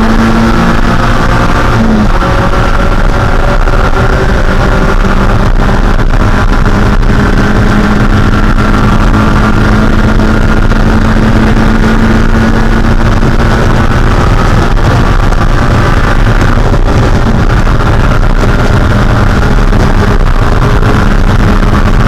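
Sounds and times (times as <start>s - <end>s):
race car engine running loud: 0.0s - 22.0s.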